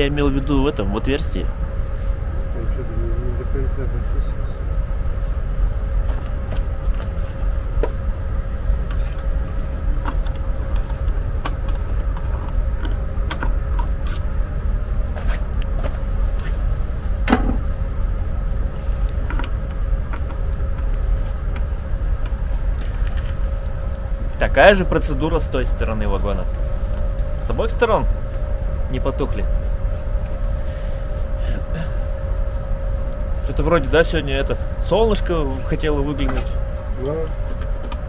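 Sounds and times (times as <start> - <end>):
faint constant hum: 0.0 - 38.0
low machine rumble: 0.0 - 38.0.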